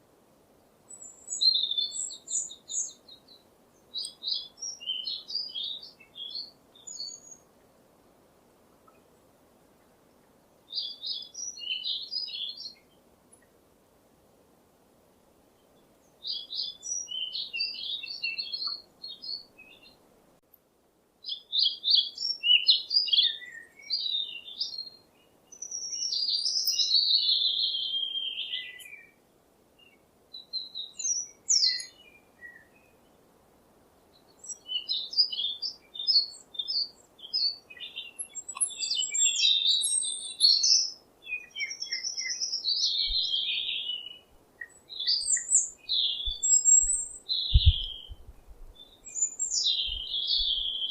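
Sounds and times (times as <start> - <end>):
songbirds chirping and singing: 0.9 - 7.5, 9.8 - 13.0, 16.0 - 20.0, 21.2 - 29.2, 29.8 - 33.2, 34.1 - 50.9.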